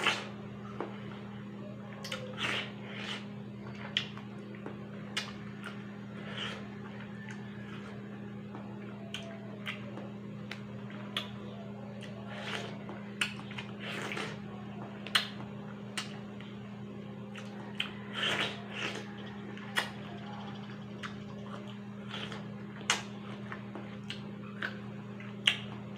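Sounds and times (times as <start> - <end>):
wet chewing and slurping: 0.0 - 0.4, 2.0 - 8.0, 8.8 - 16.2, 17.3 - 20.1, 20.9 - 25.8
steady low hum: 0.0 - 25.9.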